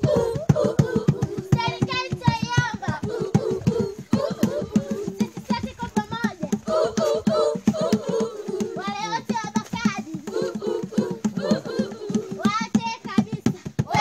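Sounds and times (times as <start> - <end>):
children singing together: 0.0 - 14.0
steady rhythmic beat: 0.0 - 14.0.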